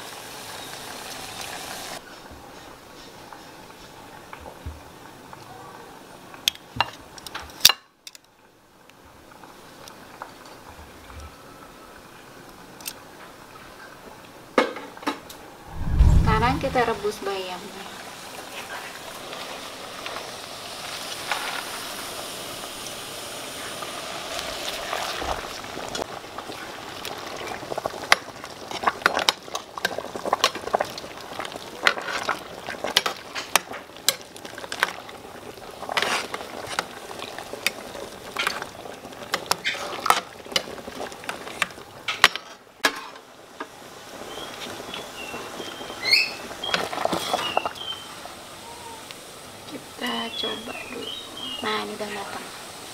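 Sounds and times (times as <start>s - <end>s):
water boiling in a pot: 0.0s - 7.8s, 8.4s - 15.4s, 16.3s - 52.9s.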